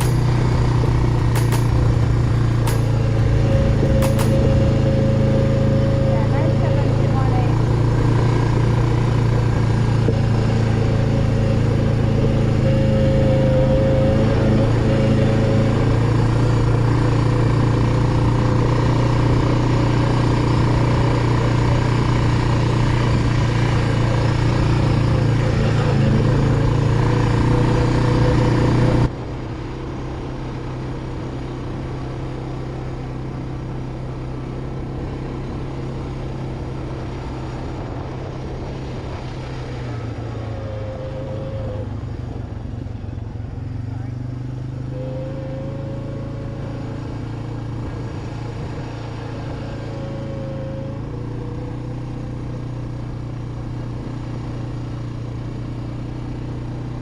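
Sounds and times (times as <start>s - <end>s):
atv engine droning: 0.0s - 57.0s.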